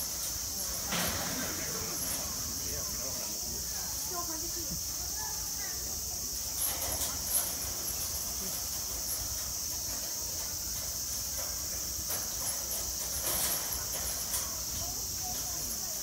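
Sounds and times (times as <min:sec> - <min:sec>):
metal chains rattling and knocking: 0:00.0 - 0:03.3, 0:06.4 - 0:16.0
steady high hiss: 0:00.0 - 0:16.0.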